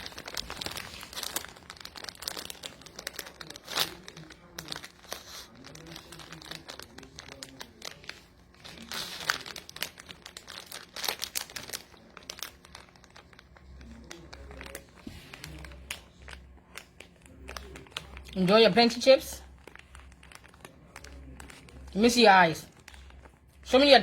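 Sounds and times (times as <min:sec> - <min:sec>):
dog crunching chips: 0:00.0 - 0:24.0
plastic bag crinkling: 0:00.0 - 0:24.0.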